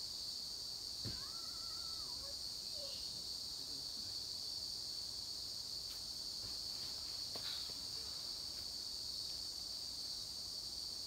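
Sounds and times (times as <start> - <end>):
insect chorus shrilling: 0.0 - 11.0.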